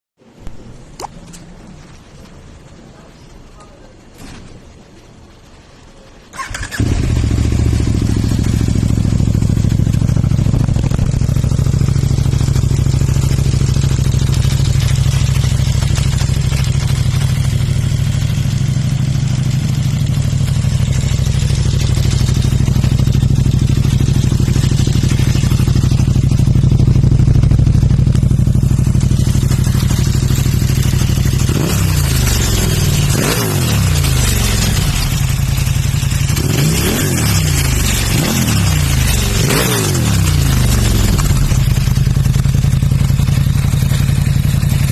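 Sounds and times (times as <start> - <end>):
motorcycle engine idling and revving: 6.3 - 44.9.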